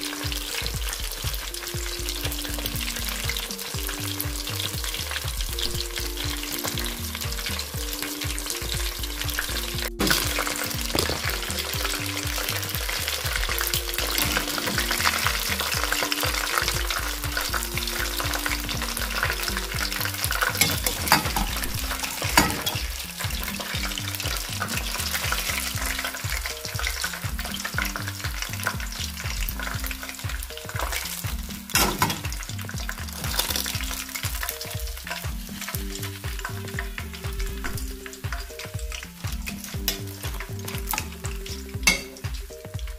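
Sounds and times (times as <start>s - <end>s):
chicken deep-frying in oil: 0.0s - 42.9s.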